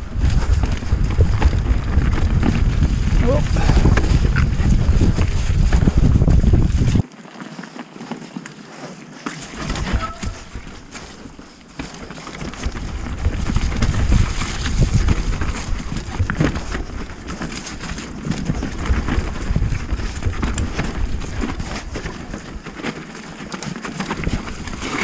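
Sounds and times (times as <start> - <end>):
bike rattling and knocking: 0.0 - 8.4, 9.1 - 25.0
bike tyres rumbling on dirt: 0.0 - 25.0.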